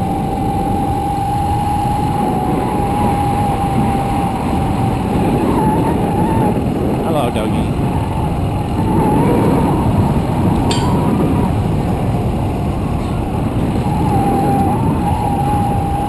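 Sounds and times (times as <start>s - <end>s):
motorbike engine rumble: 0.0s - 16.0s
road noise: 0.0s - 16.0s
steady whine: 0.0s - 16.0s.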